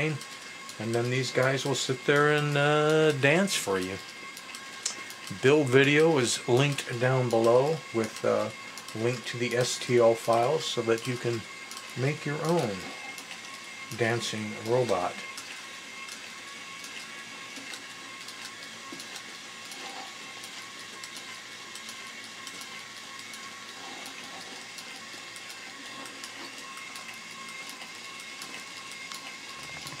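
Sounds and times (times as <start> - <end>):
small motors whirring: 0.0 - 30.0.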